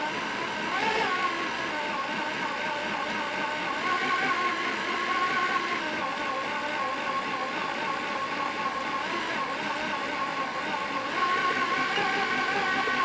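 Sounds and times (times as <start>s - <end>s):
drill motor whine: 0.0s - 13.0s.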